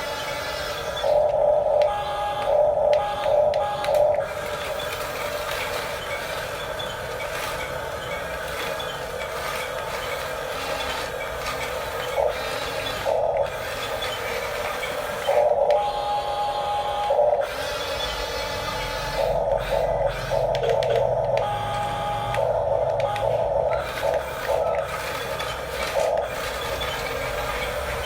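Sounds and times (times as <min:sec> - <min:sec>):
motor whine bursts: 0:00.0 - 0:28.0
toy bulldozer electric motors whirring: 0:00.0 - 0:28.0.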